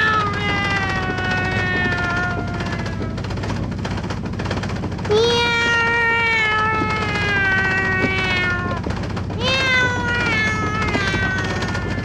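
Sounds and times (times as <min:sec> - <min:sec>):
sewing machine rattling: 0:00.0 - 0:12.0.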